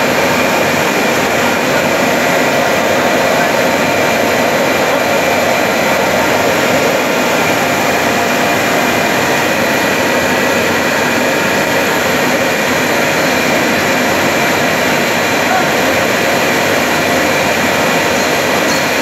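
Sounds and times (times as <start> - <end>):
extrusion machine drone: 0.0 - 19.0.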